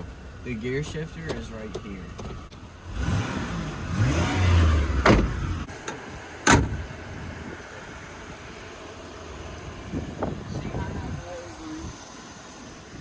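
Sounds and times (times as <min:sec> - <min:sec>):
car engine revving: 0:01.0 - 0:12.9.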